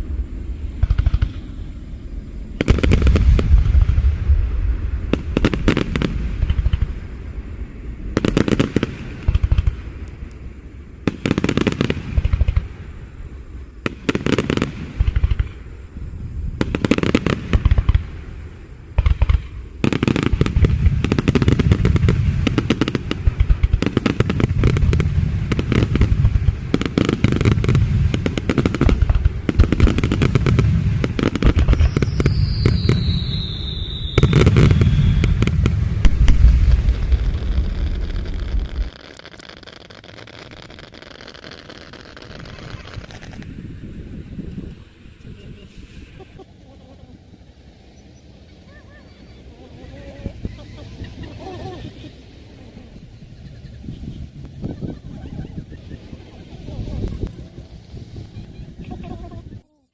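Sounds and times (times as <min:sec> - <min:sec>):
fireworks bangs and crackle: 0:00.0 - 0:59.6.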